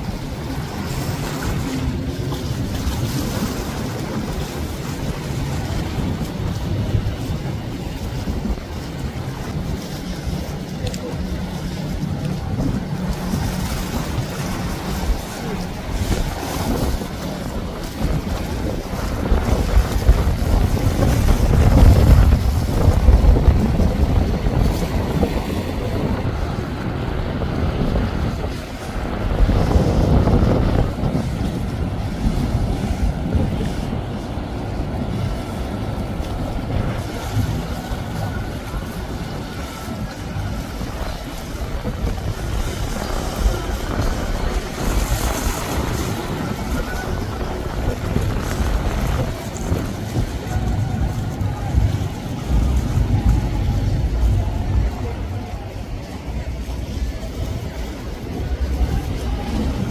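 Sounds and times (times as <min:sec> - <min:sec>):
boat engine rumble: 0:00.0 - 0:59.9
hull smacking through waves: 0:00.0 - 0:59.9
rush of boat wake: 0:00.0 - 0:59.9
wind buffeting microphone: 0:00.0 - 0:59.9.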